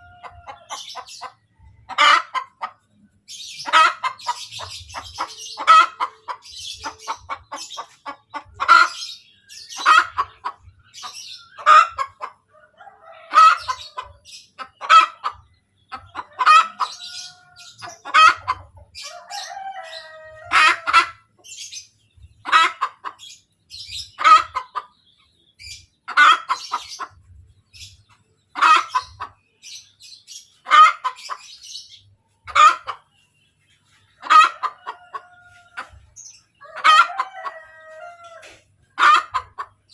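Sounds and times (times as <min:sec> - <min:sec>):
hen cackling: 0:00.0 - 0:02.8, 0:03.4 - 0:21.7, 0:22.4 - 0:23.3, 0:24.0 - 0:24.9, 0:26.1 - 0:27.2, 0:28.5 - 0:29.4, 0:30.6 - 0:31.8, 0:32.4 - 0:33.1, 0:34.2 - 0:39.9
hen clucking: 0:00.0 - 0:39.9.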